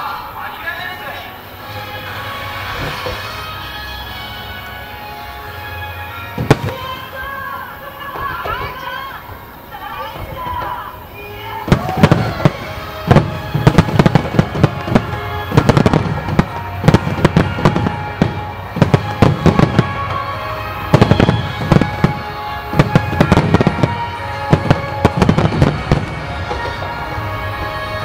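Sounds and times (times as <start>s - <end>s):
music playing: 0.0s - 28.0s
firework bangs: 1.6s - 28.0s.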